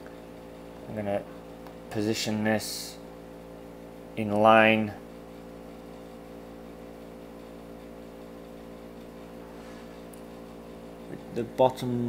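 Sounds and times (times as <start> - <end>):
buzzy mains hum: 0.0 - 12.0.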